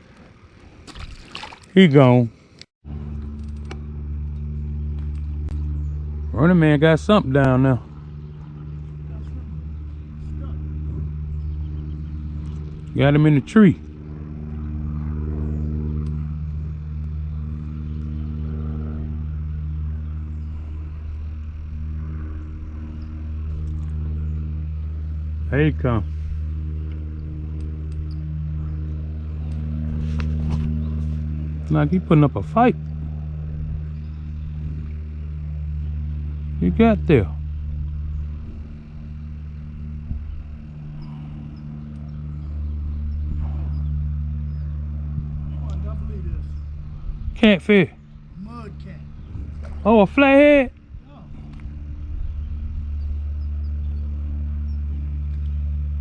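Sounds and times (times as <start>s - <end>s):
engine running steadily: 0.0s - 56.0s
low mechanical hum: 0.0s - 56.0s.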